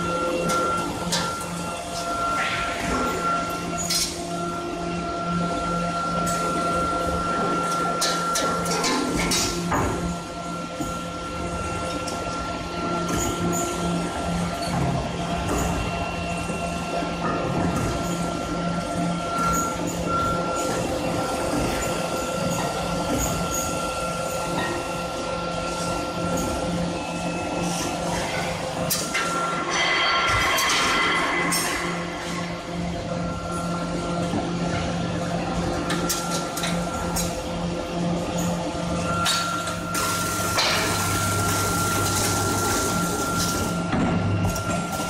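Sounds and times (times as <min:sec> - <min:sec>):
steady electrical hum: 0:00.0 - 0:45.0
steady high whine: 0:00.0 - 0:45.0.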